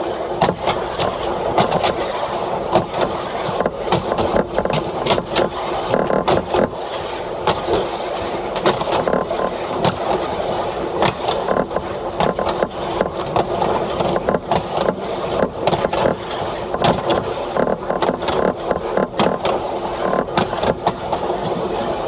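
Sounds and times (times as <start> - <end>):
train clacks and rattles: 0.0 - 9.2, 11.0 - 22.0.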